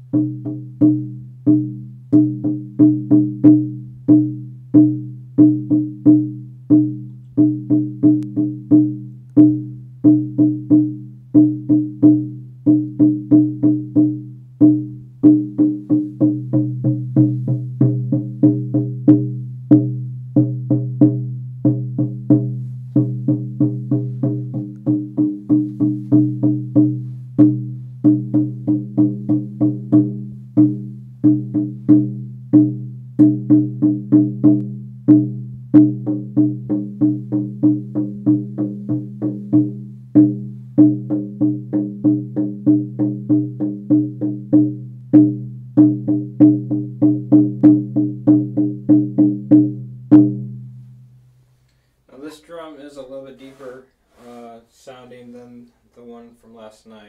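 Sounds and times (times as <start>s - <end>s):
frame drum struck with beater: 0.0s - 50.7s.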